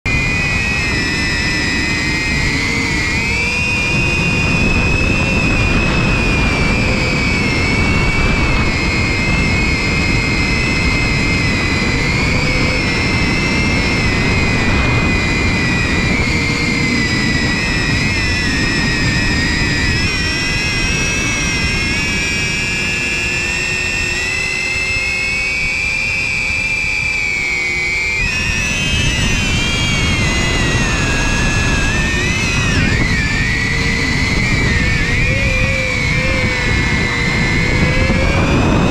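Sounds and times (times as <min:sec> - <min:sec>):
low rush of wind: 0:00.0 - 0:38.9
quadcopter motors whining: 0:00.1 - 0:38.9.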